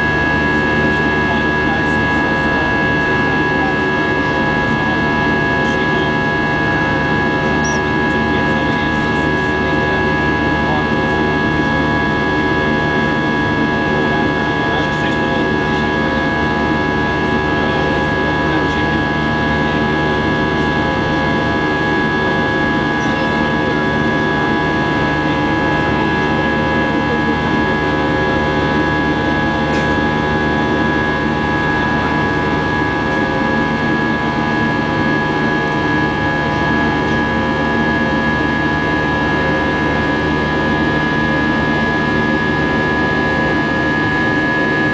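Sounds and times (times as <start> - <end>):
high engine whine: 0.0 - 44.9.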